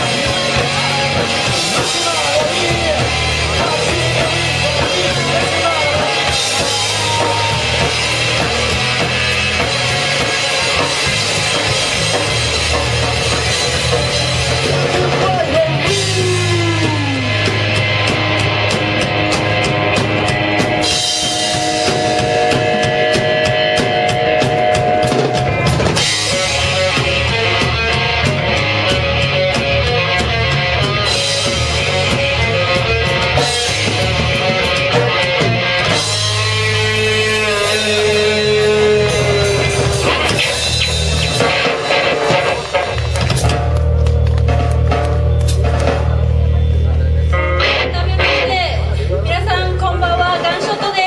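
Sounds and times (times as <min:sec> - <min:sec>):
drum kit beat: 0:00.0 - 0:51.0
rock band playing live: 0:00.0 - 0:51.0.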